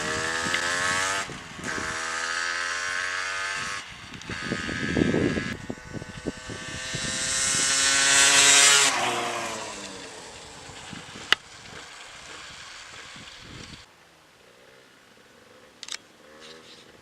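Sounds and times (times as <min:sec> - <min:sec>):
motorcycle engine popping and revving: 0:00.0 - 0:13.9.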